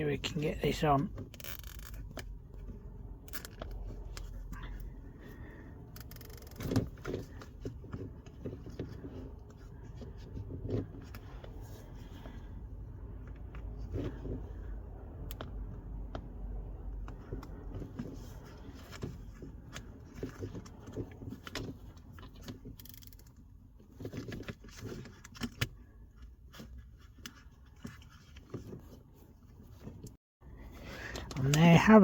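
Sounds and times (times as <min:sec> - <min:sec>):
leather rustling and scraping: 0:00.7 - 0:14.9, 0:16.6 - 0:30.9.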